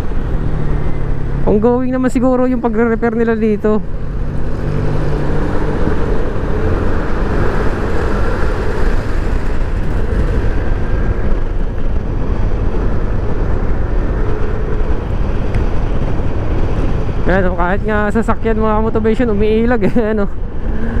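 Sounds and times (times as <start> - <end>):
wind on microphone: 0.0 - 21.0.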